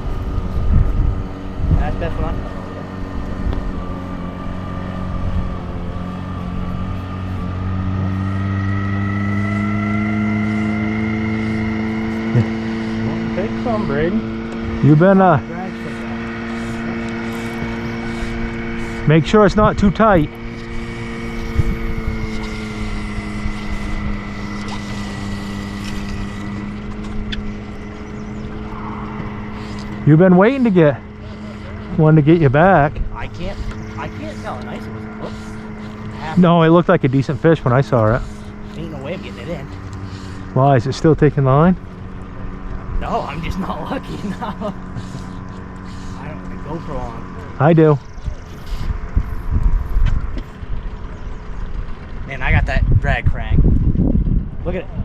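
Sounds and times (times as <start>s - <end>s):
outboard boat motor running: 0.0s - 55.0s.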